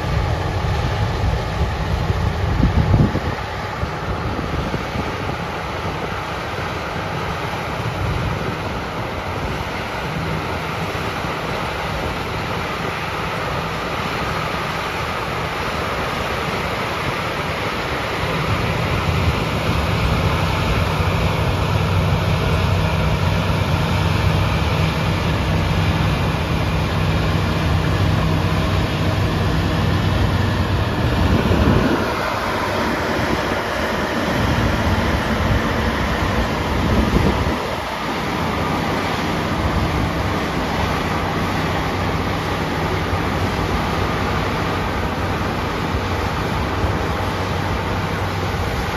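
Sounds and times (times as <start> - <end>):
combine harvester engine drone: 0.0 - 48.9
machine noise: 8.7 - 48.9.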